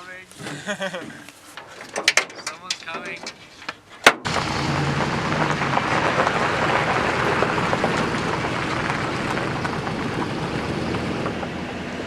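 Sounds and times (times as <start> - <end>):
tyres and wind rushing: 0.0 - 12.0.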